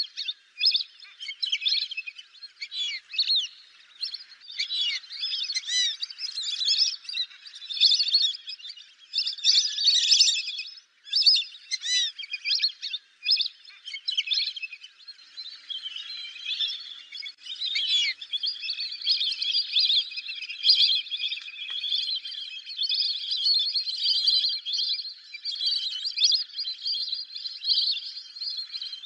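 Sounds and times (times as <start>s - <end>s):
ducks whistling as a flock: 0.0s - 29.0s.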